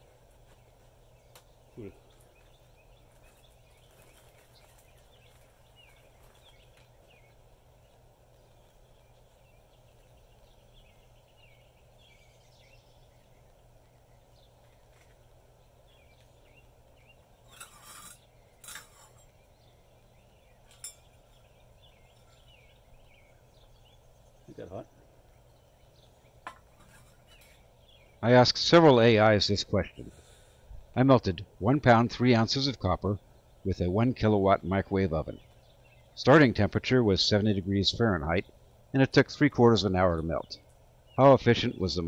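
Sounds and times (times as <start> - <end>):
birds chirping: 0.0 - 42.0
low steady hum: 0.0 - 42.0.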